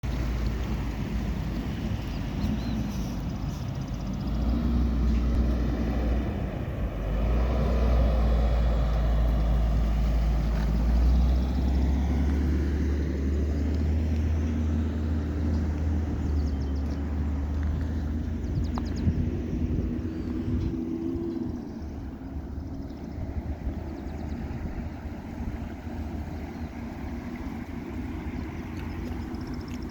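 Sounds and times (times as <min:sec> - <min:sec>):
traffic low rumble: 0:00.0 - 0:29.9
vehicles passing: 0:00.0 - 0:29.9.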